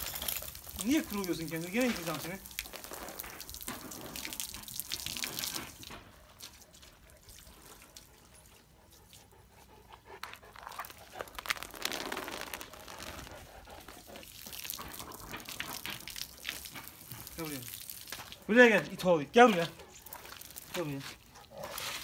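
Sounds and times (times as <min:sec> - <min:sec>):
water splashing and running: 0:00.0 - 0:09.4, 0:10.2 - 0:22.0.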